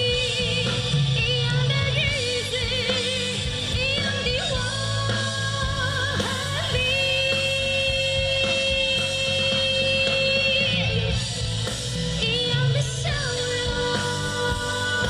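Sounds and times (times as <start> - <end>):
woman singing into microphone: 0.0 - 11.5, 12.1 - 15.0
amplified backing music: 0.0 - 15.0.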